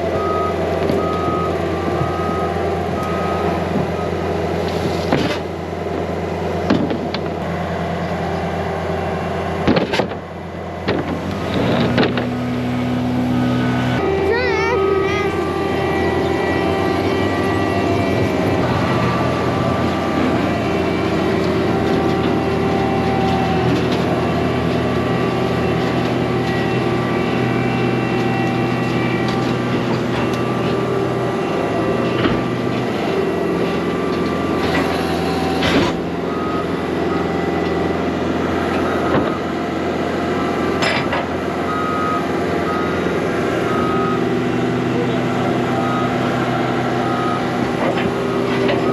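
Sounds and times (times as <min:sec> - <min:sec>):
reversing alarm beeping: 0:00.0 - 0:04.6, 0:13.3 - 0:48.9
heavy machinery engine running: 0:00.0 - 0:48.9.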